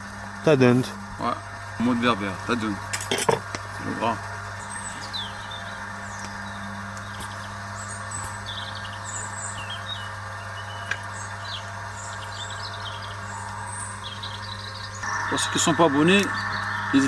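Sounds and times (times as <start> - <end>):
low hum: 0.0 - 17.0
small birds chirping: 0.0 - 17.0.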